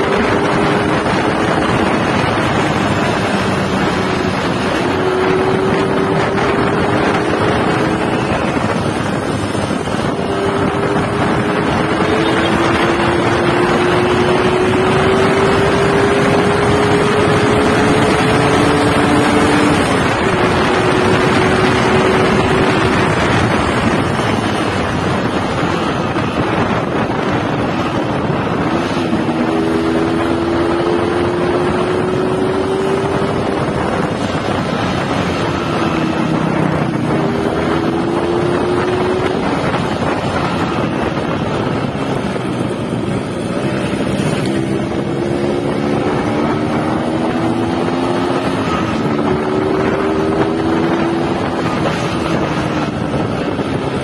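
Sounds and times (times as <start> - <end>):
two-stroke motorcycle engine running: 0.0 - 54.0
wind buffeting microphone: 0.0 - 54.0.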